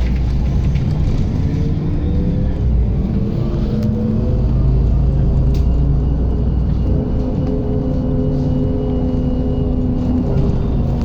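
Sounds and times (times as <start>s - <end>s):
bus diesel engine drone: 0.0s - 11.0s
road rumble: 0.0s - 11.0s.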